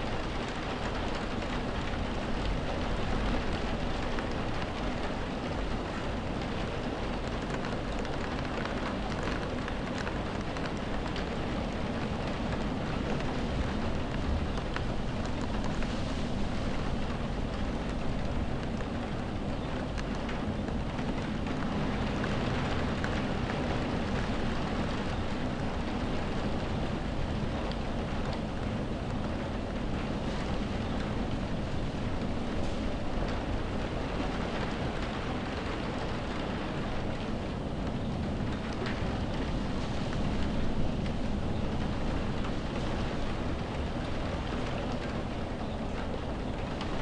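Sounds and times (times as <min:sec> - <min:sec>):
heavy rain on window: 0:00.0 - 0:47.0
wind: 0:00.0 - 0:47.0.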